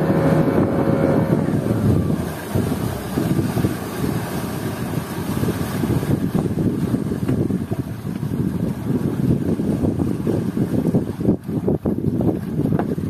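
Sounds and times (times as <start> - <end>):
water washing against hull: 0.0 - 13.0
wind rumbling on microphone: 0.0 - 13.0.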